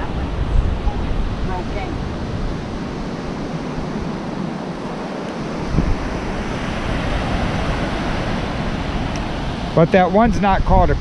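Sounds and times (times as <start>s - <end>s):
surf breaking on a beach: 0.0s - 11.0s
wind on the microphone: 0.0s - 11.0s.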